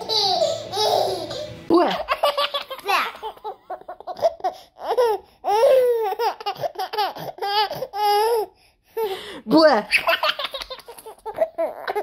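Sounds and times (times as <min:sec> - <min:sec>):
baby laughing: 0:00.0 - 0:09.1, 0:09.9 - 0:12.0.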